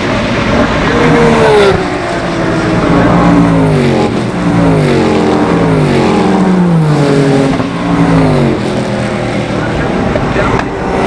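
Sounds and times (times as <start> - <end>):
racing cars passing at speed: 0.0 - 11.0.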